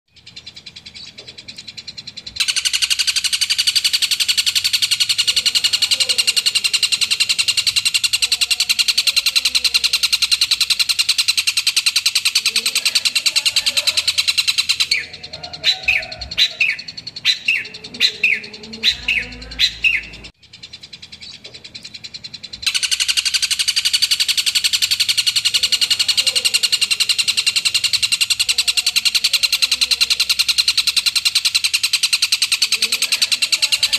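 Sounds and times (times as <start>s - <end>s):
bird chattering song: 0.1s - 33.9s
sharp falling bird calls: 0.1s - 33.9s.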